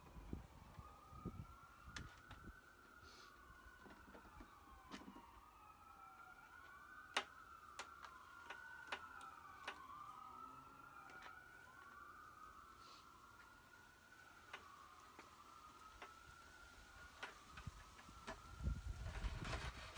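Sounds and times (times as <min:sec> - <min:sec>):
faint siren wailing: 0:00.0 - 0:19.9.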